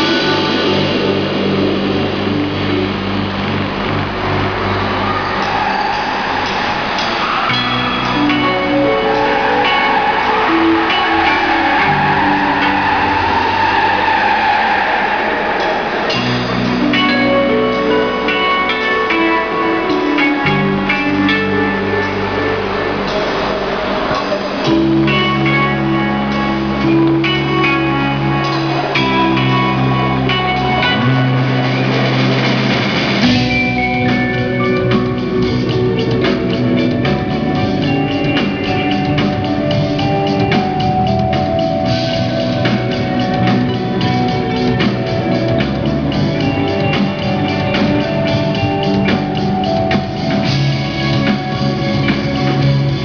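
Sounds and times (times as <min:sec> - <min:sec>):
drum kit: 0:00.0 - 0:53.0
electric guitars: 0:00.0 - 0:53.0
keyboard: 0:00.0 - 0:53.0.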